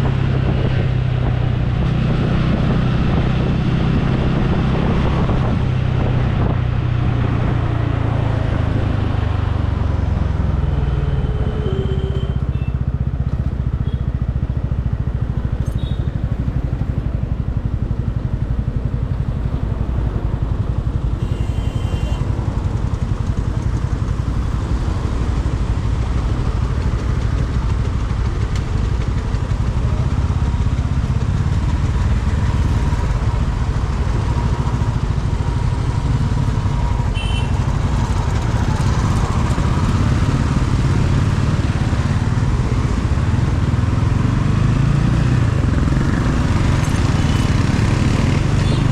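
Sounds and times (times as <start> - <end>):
motorcycle engine running: 0.0 - 48.9
road noise: 0.0 - 48.9.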